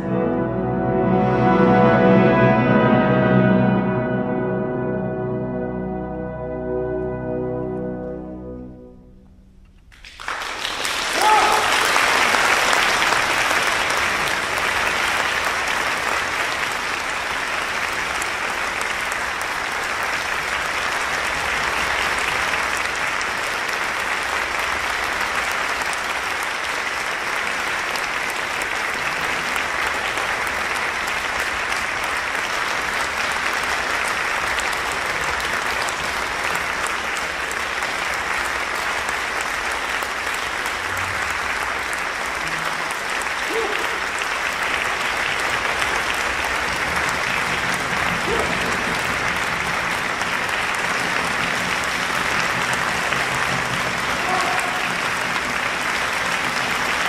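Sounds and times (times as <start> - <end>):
audience applauding: 9.9 - 57.0.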